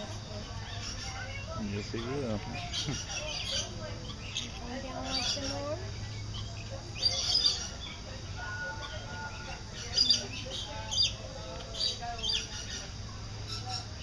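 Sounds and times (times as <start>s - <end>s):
lorikeets screeching: 0.0s - 14.0s.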